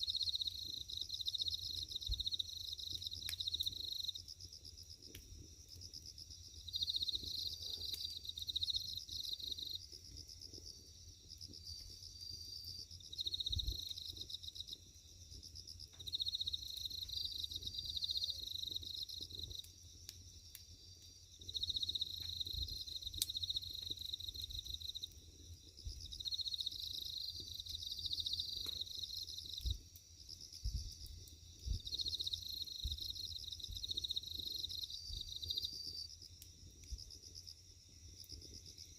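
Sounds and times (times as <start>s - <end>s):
burning firewood crackles: 0.0s - 38.9s
crickets chirping: 0.0s - 38.9s.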